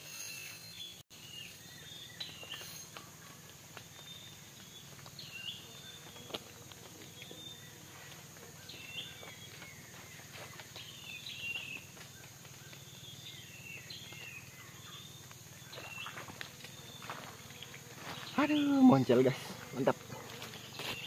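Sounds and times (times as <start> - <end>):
high insect drone: 0.0 - 21.0
small birds chirping: 0.0 - 21.0.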